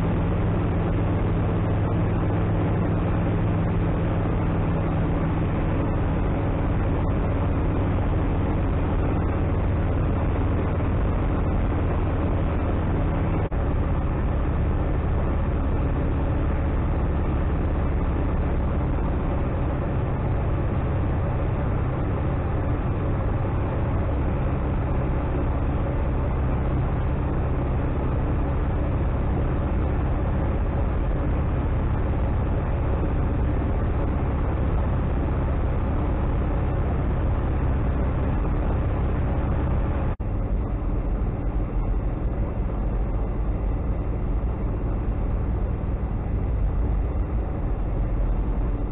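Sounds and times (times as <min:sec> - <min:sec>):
light aircraft engine and propeller: 0:00.0 - 0:48.9.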